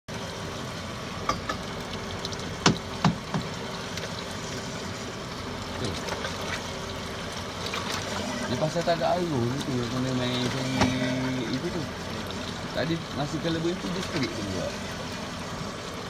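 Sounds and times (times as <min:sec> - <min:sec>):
faint steady hum: 0:00.1 - 0:16.0
water sloshing against boat hull: 0:01.5 - 0:16.0.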